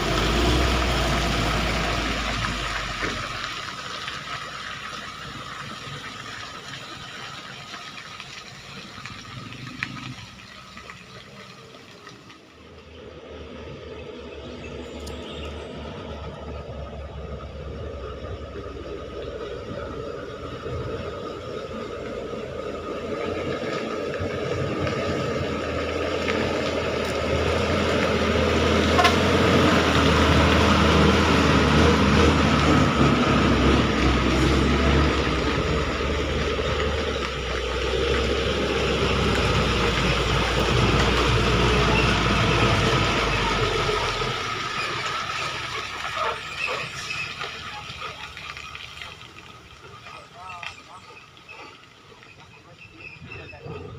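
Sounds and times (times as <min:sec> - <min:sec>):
truck engine labouring: 0:00.0 - 0:53.9.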